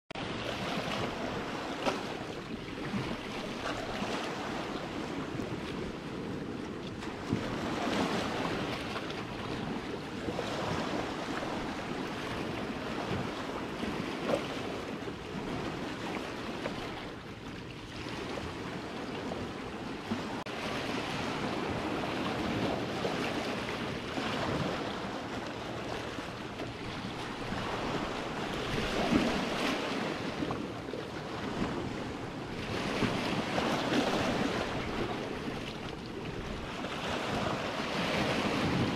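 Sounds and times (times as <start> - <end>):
waves breaking on rocks: 0.2 - 17.1, 17.9 - 38.9
wind on microphone: 0.2 - 38.9.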